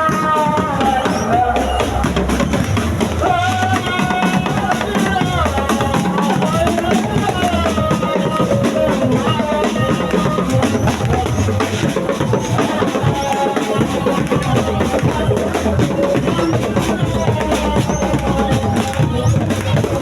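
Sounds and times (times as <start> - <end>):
loud music with drum beat: 0.0 - 20.0.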